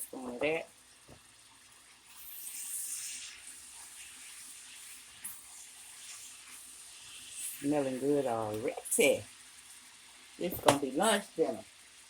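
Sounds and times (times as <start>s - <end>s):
fried rice sizzling in a pan: 0.0s - 12.0s.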